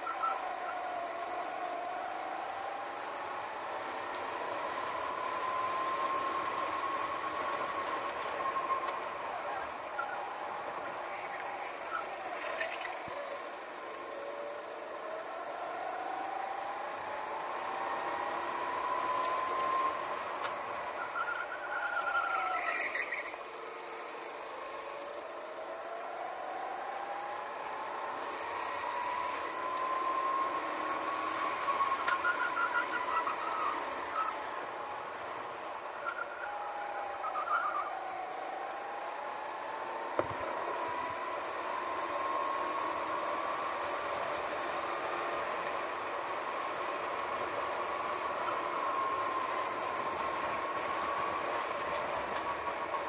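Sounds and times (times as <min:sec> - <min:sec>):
go-kart engine accelerating: 0:00.0 - 0:53.0.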